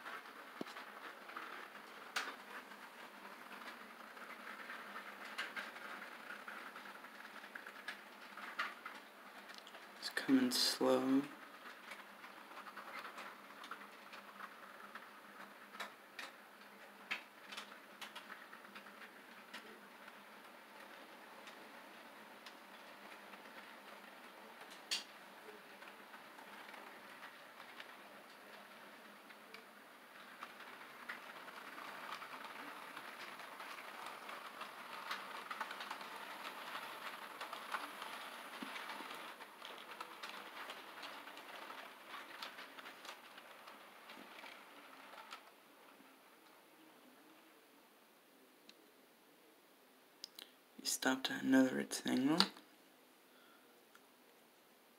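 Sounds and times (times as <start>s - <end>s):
model train wheels clicking: 0.0s - 47.6s.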